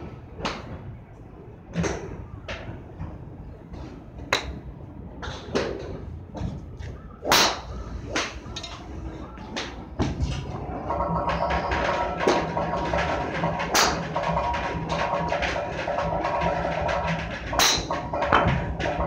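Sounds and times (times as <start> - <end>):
golf clubs striking balls: 0.4 - 0.8, 1.7 - 19.0.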